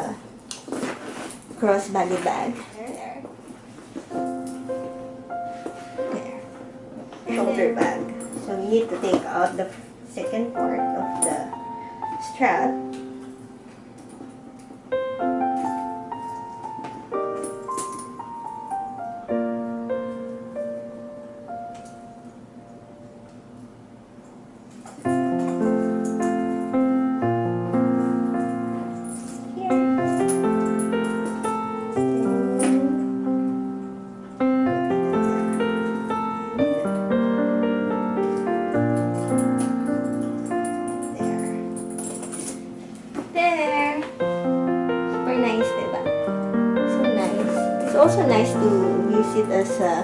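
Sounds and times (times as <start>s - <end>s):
soft piano chords: 0.0s - 50.0s.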